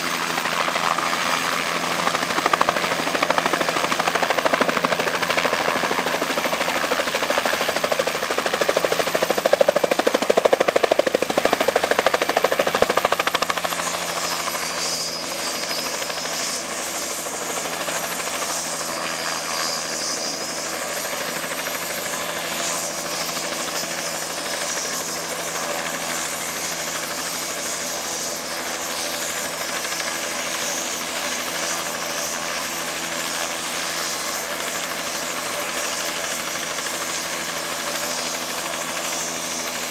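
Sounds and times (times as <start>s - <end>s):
helicopter rotor pulsing: 0.0s - 39.9s
high turbine whine: 0.0s - 39.9s.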